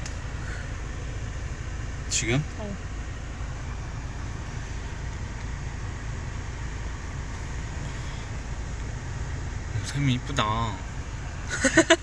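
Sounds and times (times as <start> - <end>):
car cabin rumble and hiss: 0.0 - 12.0.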